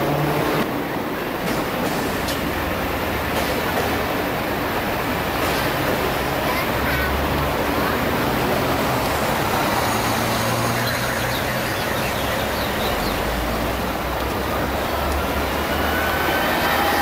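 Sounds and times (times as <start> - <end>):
busy street traffic: 0.0 - 17.0.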